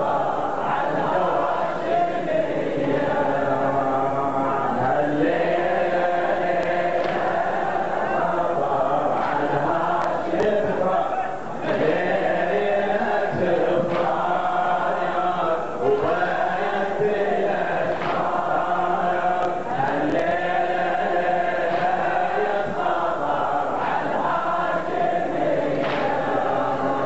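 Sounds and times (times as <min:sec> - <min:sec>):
men chanting together: 0:00.0 - 0:27.0.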